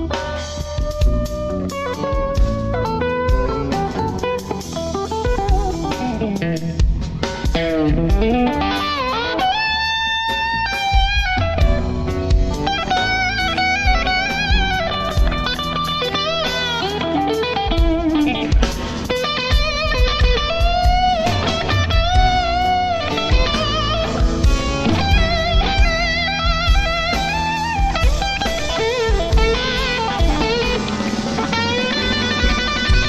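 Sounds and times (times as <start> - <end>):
lead electric guitar bending notes: 0.0 - 33.0
rock band playing live: 0.0 - 33.0.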